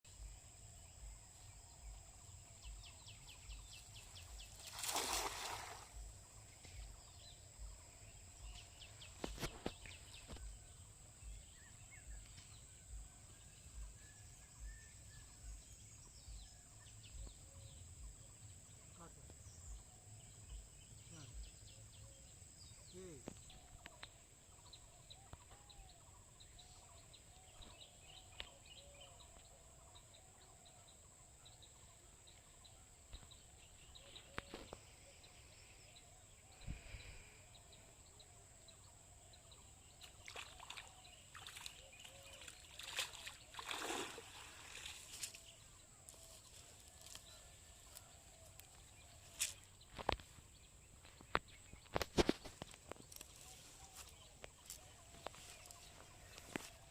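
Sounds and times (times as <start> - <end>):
small birds chirping: 0.1 - 56.9.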